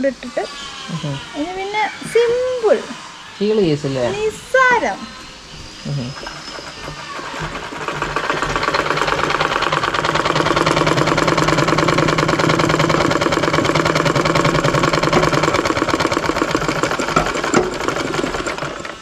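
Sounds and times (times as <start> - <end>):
sewing machine stitching: 0.0 - 19.0.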